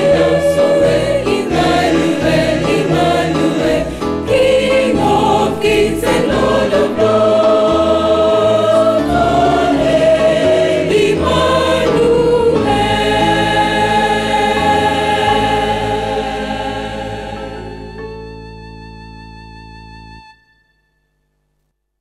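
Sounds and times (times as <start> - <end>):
choir singing in harmony: 0.0 - 18.6.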